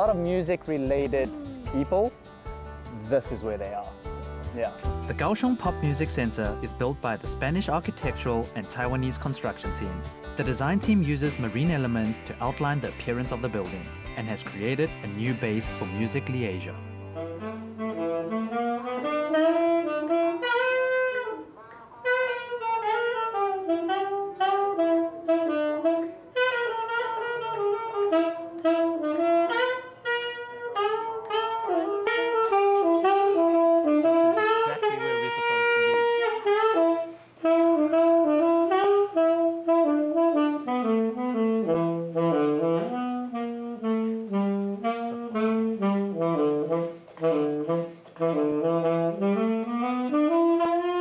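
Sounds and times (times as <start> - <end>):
saxophone jazz melody: 0.0 - 51.0.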